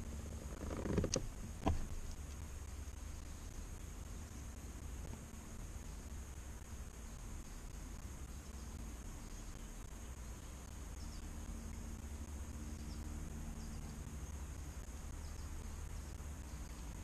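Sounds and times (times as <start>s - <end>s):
high thin insect drone: 0.0s - 17.0s
steady low rumble: 0.0s - 17.0s.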